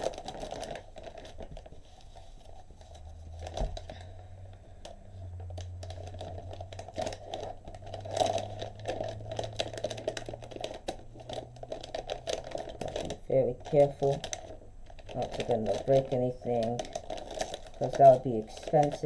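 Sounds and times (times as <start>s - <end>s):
low steady hum: 0.0s - 19.0s
packaging crinkling and rustling: 0.0s - 19.0s.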